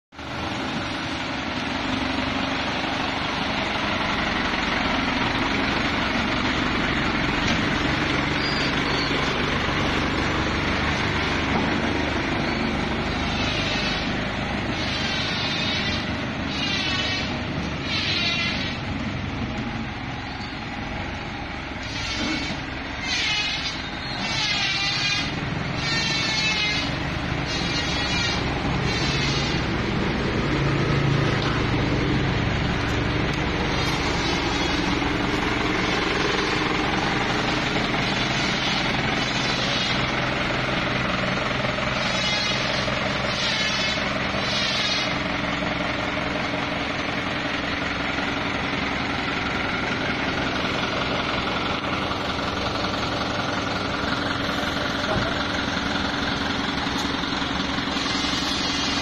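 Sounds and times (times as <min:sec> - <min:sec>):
diesel truck engine running: 0:00.1 - 0:59.0.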